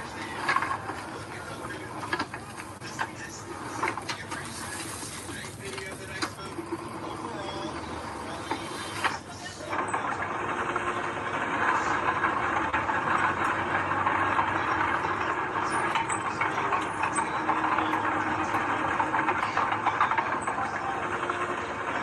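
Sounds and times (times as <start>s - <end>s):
earthmoving machine engine: 0.0s - 22.0s.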